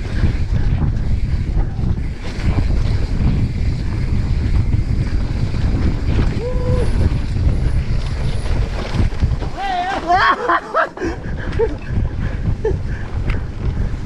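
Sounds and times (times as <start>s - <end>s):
bike trail rumble: 0.0s - 14.0s
wind buffeting microphone: 0.0s - 14.0s.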